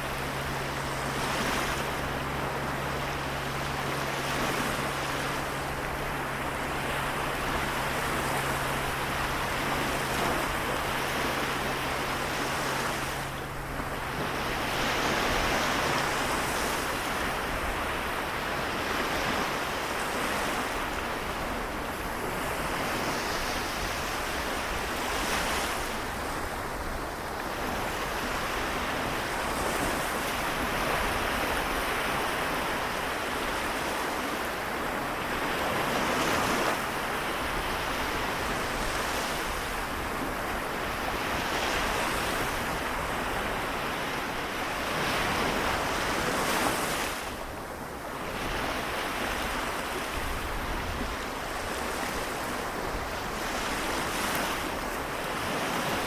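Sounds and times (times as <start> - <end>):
small waves washing onto shore: 0.0 - 56.0.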